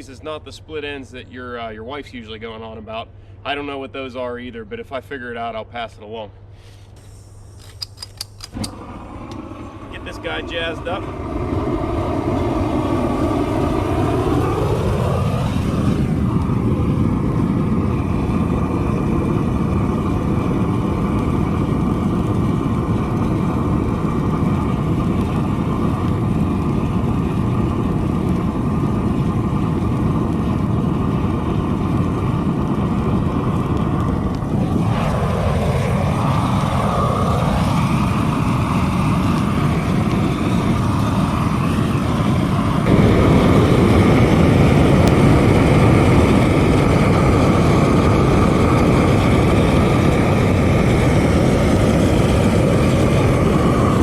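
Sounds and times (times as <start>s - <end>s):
torch flame roaring: 6.6s - 54.0s.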